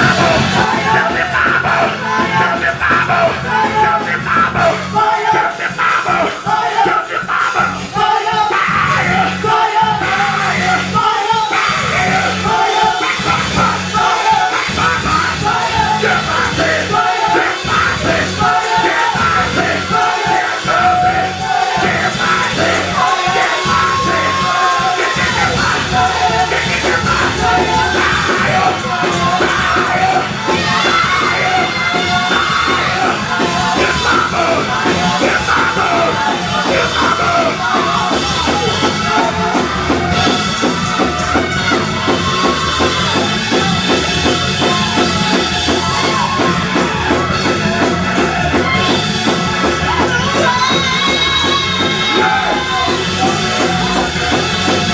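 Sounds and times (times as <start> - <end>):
drum kit: 0.0 - 54.9
keyboards playing: 0.0 - 54.9
voices singing and yelling: 0.0 - 54.9.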